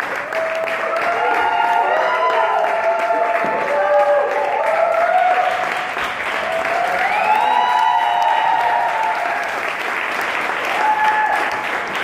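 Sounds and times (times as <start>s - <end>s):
audience applauding: 0.0s - 12.0s
cheering shouts: 0.2s - 9.8s, 10.6s - 11.8s.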